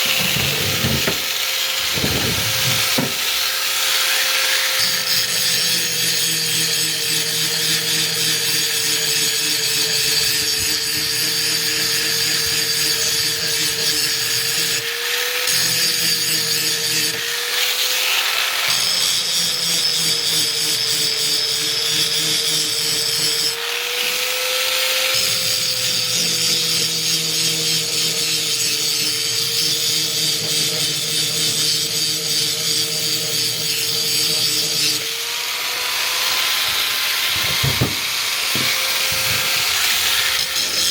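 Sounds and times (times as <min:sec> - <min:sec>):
grinder motor whine: 0:00.0 - 0:28.5, 0:29.4 - 0:40.9
blade grinding: 0:00.0 - 0:40.9.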